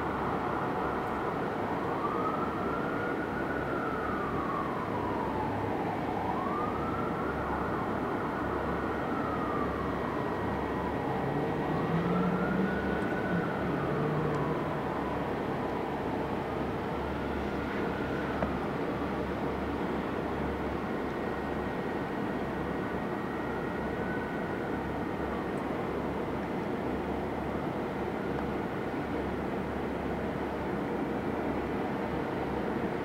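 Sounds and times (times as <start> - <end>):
fire engine siren wailing: 0.0 - 33.0.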